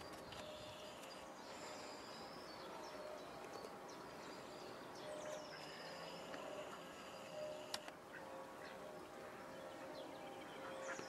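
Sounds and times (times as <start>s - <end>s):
outdoor background noise: 0.0s - 11.0s
songbird chirps: 0.0s - 11.0s.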